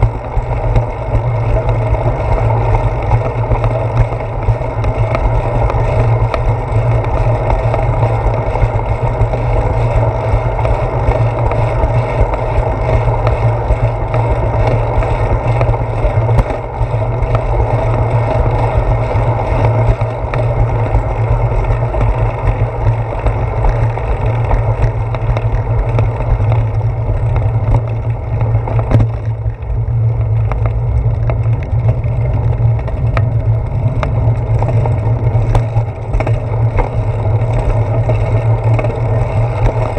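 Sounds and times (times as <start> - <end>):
bicycle road rumble: 0.0 - 39.9
wind: 0.0 - 39.9.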